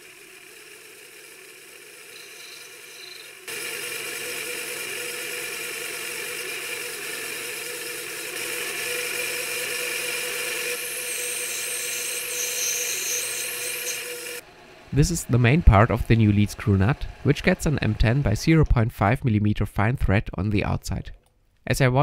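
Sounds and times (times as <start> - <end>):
bandsaw cutting metal: 0.0 - 18.6.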